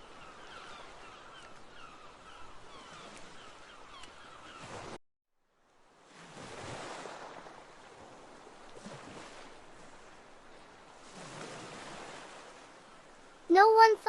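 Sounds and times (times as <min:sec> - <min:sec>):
faint ocean water wash: 0:00.0 - 0:14.0.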